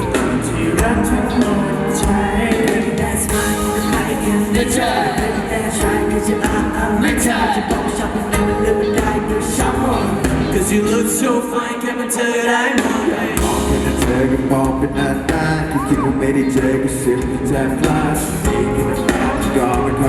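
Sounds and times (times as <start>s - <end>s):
drums: 0.0s - 11.4s, 12.7s - 20.0s
live pop band playing: 0.0s - 20.0s
person singing: 0.0s - 20.0s.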